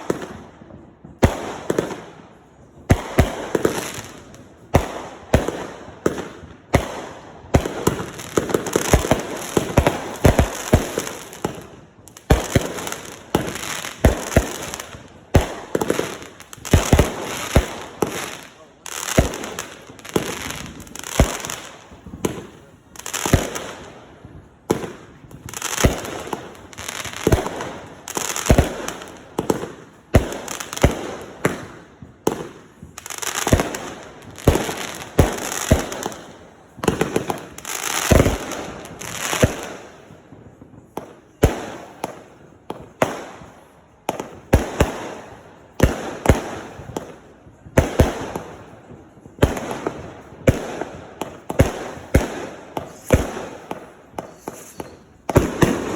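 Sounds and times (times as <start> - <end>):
fireworks bangs: 0.0 - 55.9
fireworks crackling hiss: 0.0 - 55.9.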